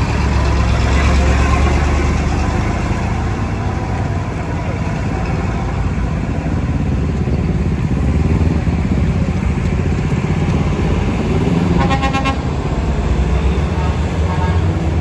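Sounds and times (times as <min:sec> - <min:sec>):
truck and car engines: 0:00.0 - 0:15.0.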